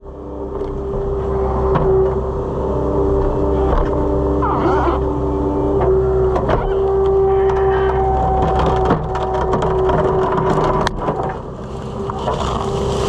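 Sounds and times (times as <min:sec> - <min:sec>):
loader engine running: 0:00.0 - 0:13.0
steady whine: 0:00.0 - 0:13.0.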